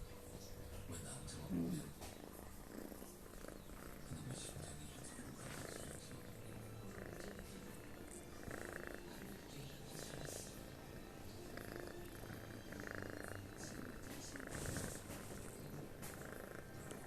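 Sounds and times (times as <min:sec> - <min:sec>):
cat snoring: 0:01.0 - 0:17.0.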